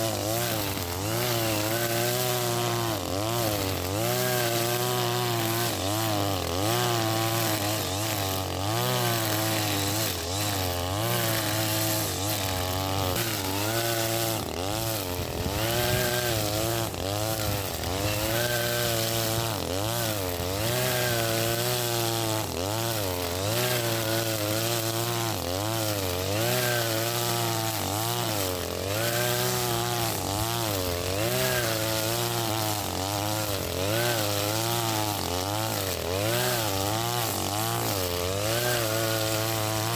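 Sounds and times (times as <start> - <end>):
brush cutter running at high revs: 0.0 - 39.9.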